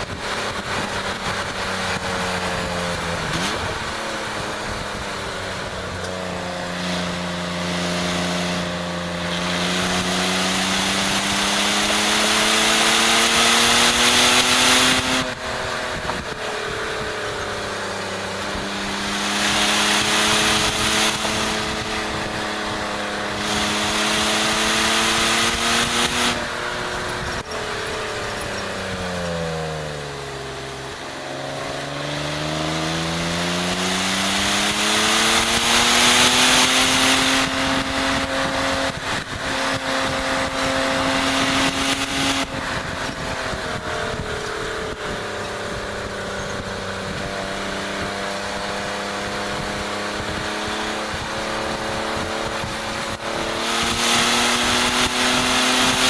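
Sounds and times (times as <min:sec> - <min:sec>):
car engine running hard: 0:00.0 - 0:56.0
wind noise on microphone: 0:08.6 - 0:29.8, 0:31.8 - 0:56.0.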